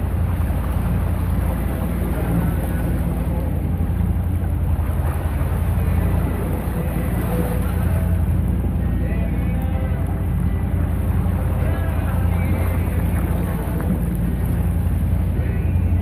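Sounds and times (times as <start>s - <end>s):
water washing along hull: 0.0s - 16.0s.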